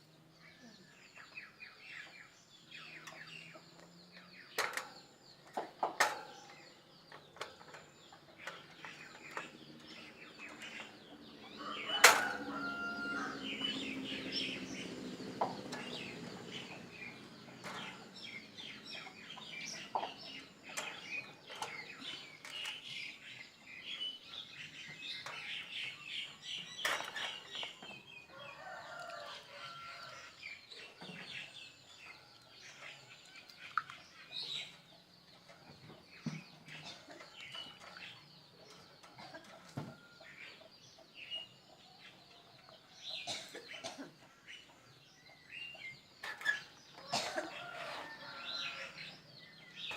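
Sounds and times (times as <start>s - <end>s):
birds calling and clucking: 0.0s - 49.9s.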